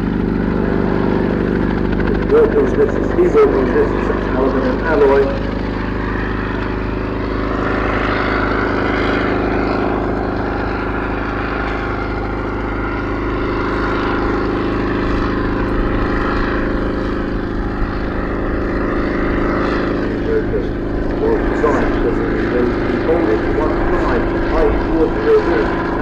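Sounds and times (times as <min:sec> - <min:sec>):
helicopter engine and rotor drone: 0:00.0 - 0:26.0.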